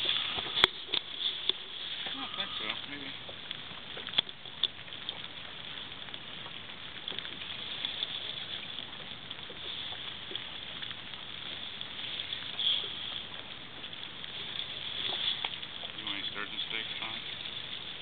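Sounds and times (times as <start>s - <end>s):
rustle: 0.0s - 18.0s
water noise: 0.0s - 18.0s
wind: 0.0s - 18.0s.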